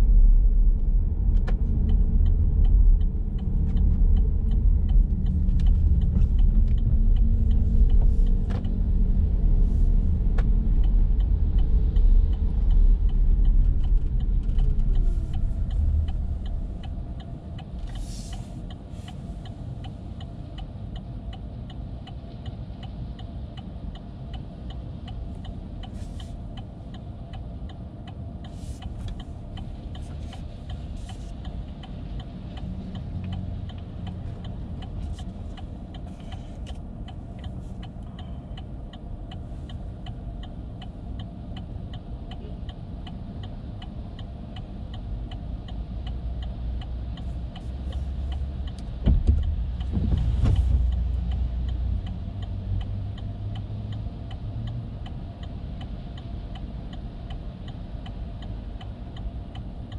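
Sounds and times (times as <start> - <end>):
quiet cabin hum: 0.0 - 59.9
turn signal ticking: 0.0 - 59.9.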